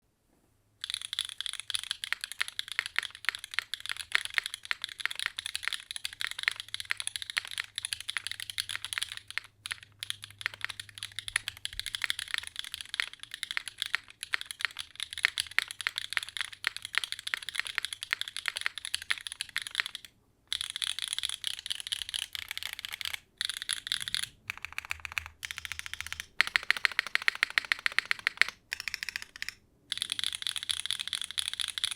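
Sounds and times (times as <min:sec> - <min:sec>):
fast typing on mechanical keyboard: 0:00.8 - 0:31.9.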